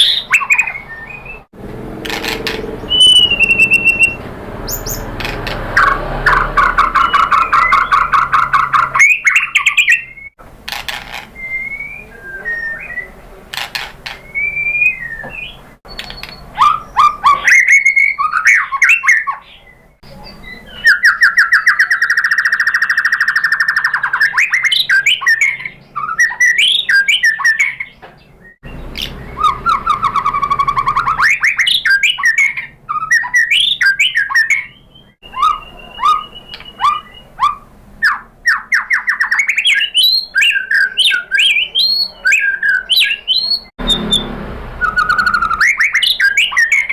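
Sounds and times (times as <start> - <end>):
fast bird trills: 0.0 - 1.4, 2.0 - 11.7, 15.9 - 19.6, 20.4 - 27.9, 28.7 - 46.9
songbird whistling and chattering: 0.0 - 46.9.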